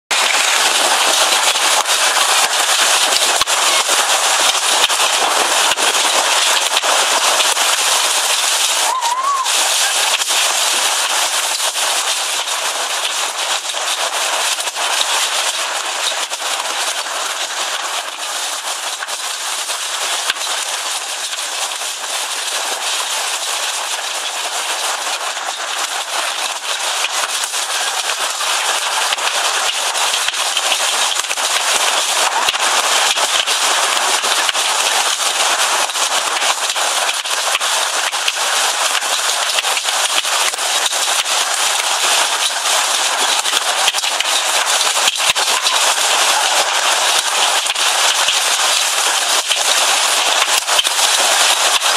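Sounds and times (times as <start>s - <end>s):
hailstones pelting down: 0.1s - 51.9s.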